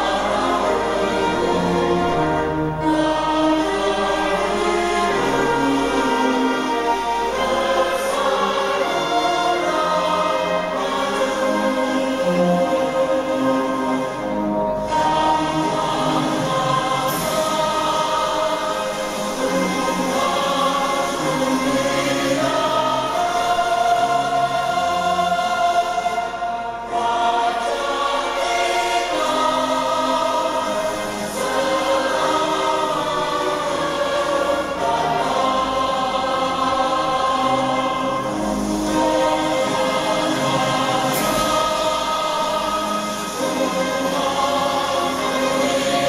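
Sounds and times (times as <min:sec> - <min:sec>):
choir singing in harmony: 0:00.0 - 0:46.0.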